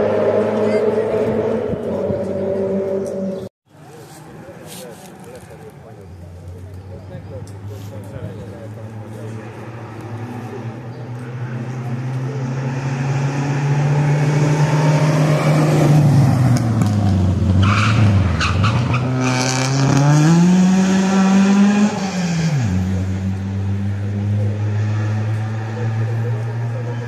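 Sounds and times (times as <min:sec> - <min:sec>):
rally car engine passing: 0:00.0 - 0:03.5, 0:06.4 - 0:27.0.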